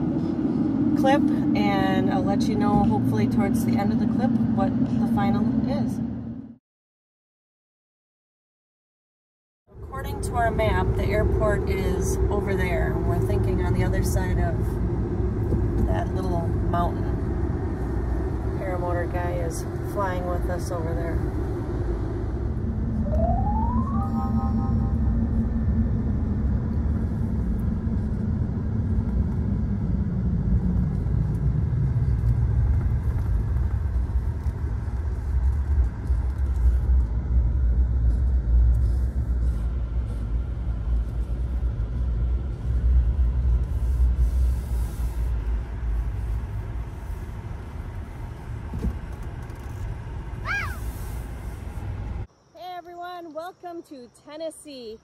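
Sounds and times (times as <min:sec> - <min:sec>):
engine and tyre rumble: 0:00.0 - 0:06.6, 0:09.7 - 0:24.0, 0:24.7 - 0:52.5.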